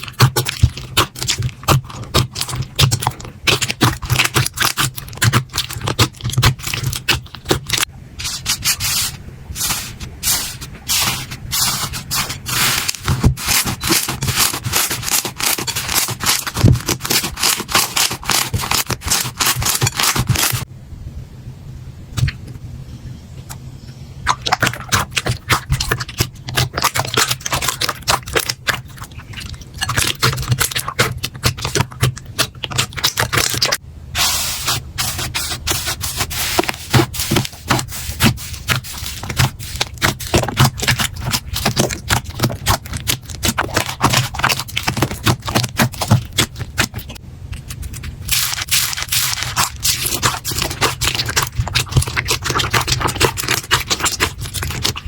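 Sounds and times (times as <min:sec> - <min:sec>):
slime crackling and squelching: 0:00.0 - 0:20.7, 0:24.2 - 0:55.0.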